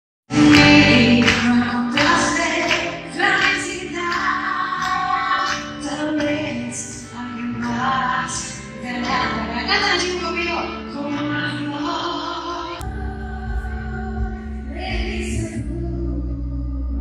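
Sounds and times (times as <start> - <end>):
woman singing: 0.3 - 17.0.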